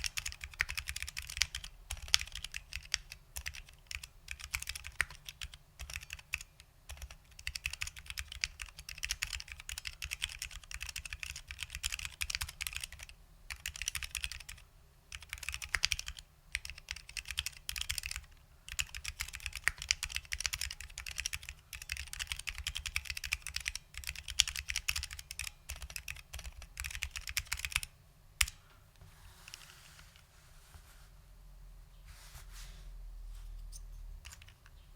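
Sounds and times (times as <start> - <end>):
keyboard typing: 0.0 - 28.7, 34.2 - 34.8.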